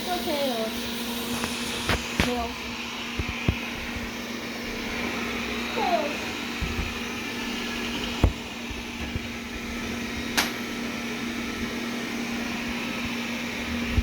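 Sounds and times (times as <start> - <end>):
robot vacuum motor hum: 0.0 - 14.0.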